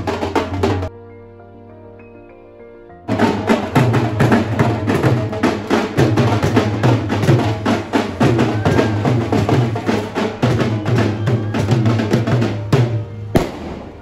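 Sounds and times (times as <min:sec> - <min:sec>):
drums playing fast rhythm: 0:00.0 - 0:00.9, 0:03.1 - 0:13.6.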